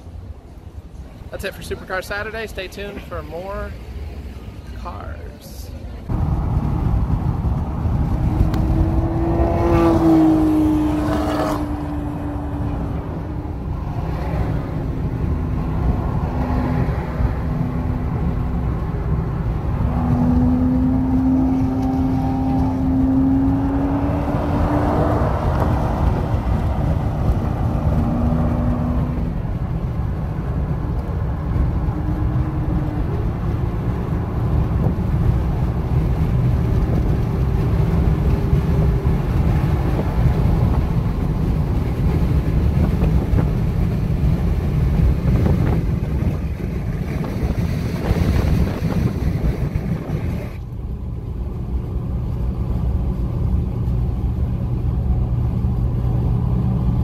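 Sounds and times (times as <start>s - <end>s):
road and wind noise: 0.0s - 57.0s
car engine accelerating: 6.1s - 57.0s.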